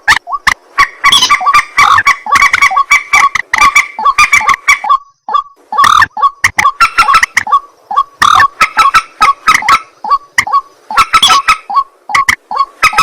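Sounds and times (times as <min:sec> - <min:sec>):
bird calling harsh notes: 0:00.0 - 0:13.0.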